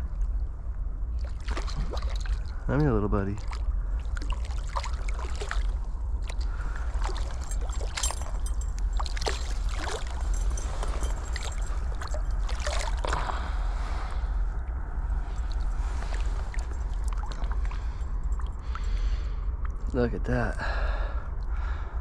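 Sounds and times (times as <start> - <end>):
water splashing and sloshing: 0.0 - 19.9.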